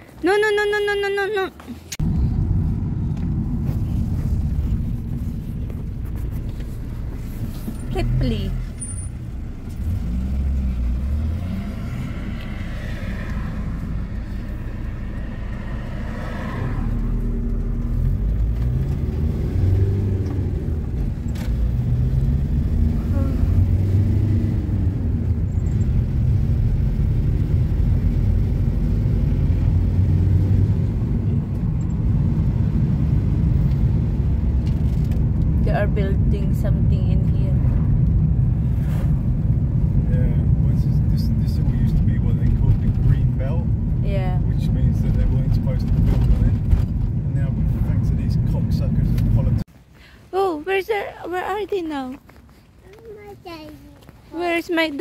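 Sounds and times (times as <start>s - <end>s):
car road noise rumble: 0.0s - 55.0s.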